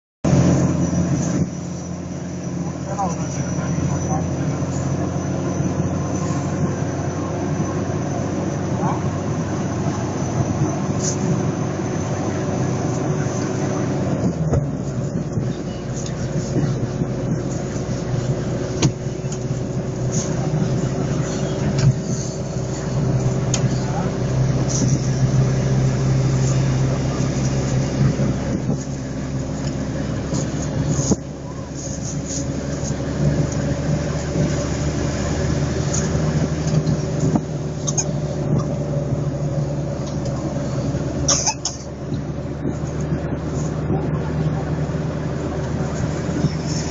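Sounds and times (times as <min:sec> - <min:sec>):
road noise: 0:00.0 - 0:46.9
vehicle engine running: 0:00.0 - 0:46.9.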